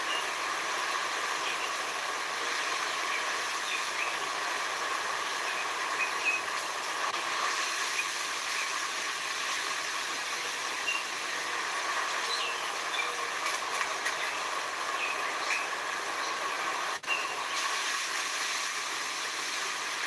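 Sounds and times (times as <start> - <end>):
hissing nature ambience: 0.0 - 20.0.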